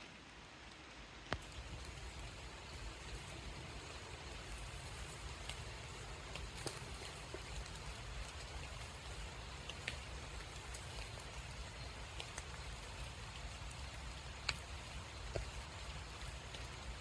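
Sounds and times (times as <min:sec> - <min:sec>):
light rain dripping in woods: 0:00.0 - 0:17.0.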